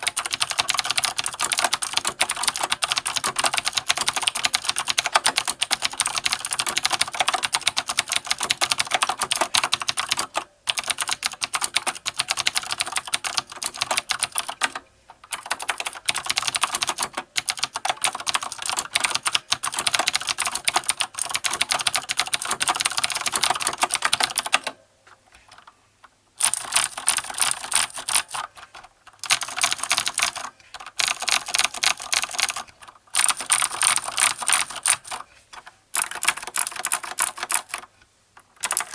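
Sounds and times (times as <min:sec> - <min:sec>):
mechanical keyboard typing: 0:00.0 - 0:24.8, 0:26.4 - 0:35.2, 0:36.0 - 0:37.8, 0:38.6 - 0:38.9.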